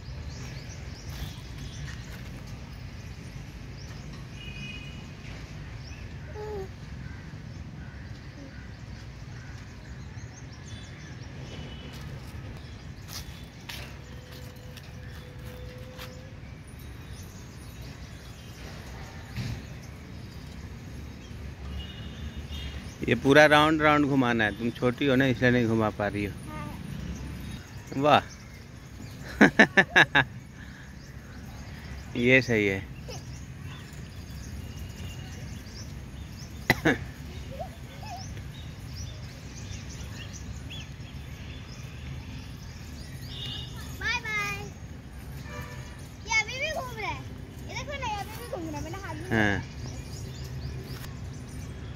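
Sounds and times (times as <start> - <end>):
birds chirping: 0.0 - 51.9
outdoor background noise: 0.0 - 51.9.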